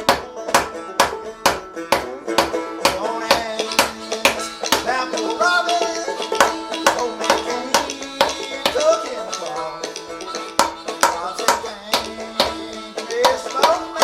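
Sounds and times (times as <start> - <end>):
plucked strings music with beat: 0.0 - 14.0.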